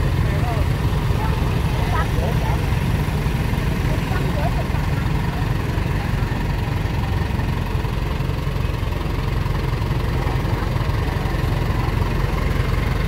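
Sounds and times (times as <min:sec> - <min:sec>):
coach diesel engine idling: 0:00.0 - 0:13.0.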